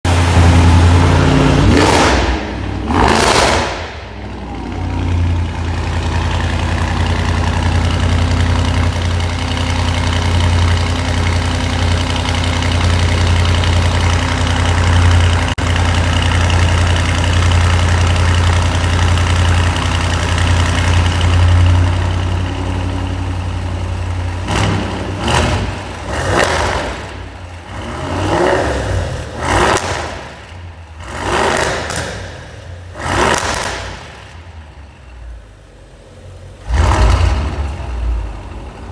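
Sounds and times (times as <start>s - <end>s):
car engine revving and idling: 0.1s - 38.9s.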